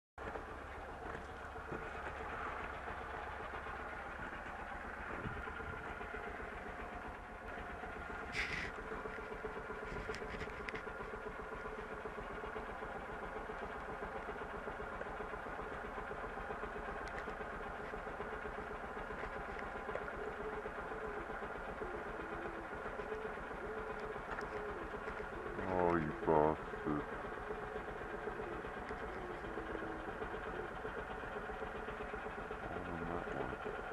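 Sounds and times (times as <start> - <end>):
motorcycle engine idling: 0.2 - 33.9.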